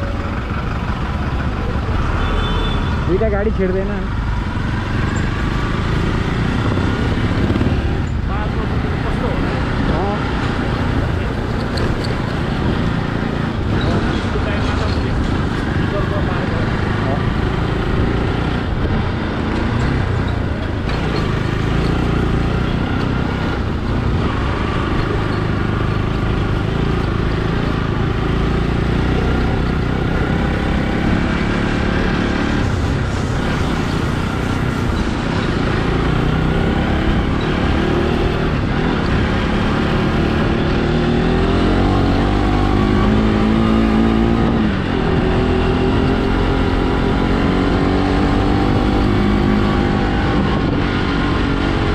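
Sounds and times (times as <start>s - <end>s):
motorcycle engine rumbling: 0.0s - 51.9s.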